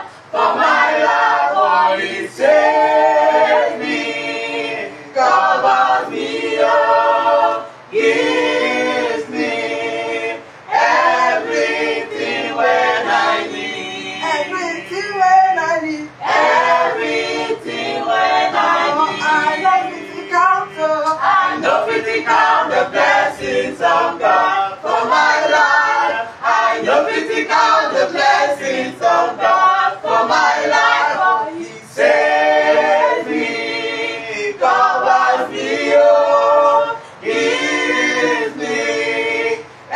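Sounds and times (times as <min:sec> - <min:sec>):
group singing unaccompanied: 0:00.0 - 0:39.9.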